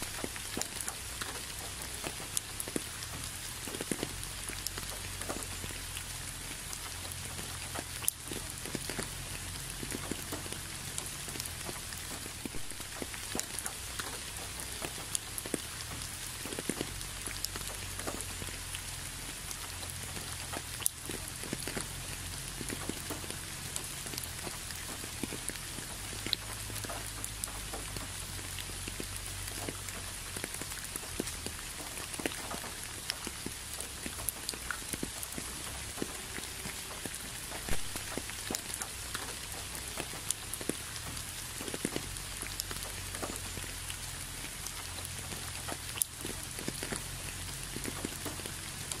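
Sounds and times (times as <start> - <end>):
raindrops ticking: 0.0 - 49.0
steady rain hiss: 0.0 - 49.0.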